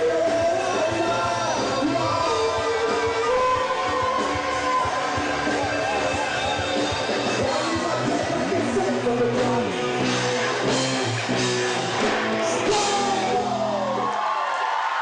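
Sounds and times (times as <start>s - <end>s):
man singing: 0.0s - 10.8s, 12.4s - 14.0s
live rock band: 0.0s - 14.2s.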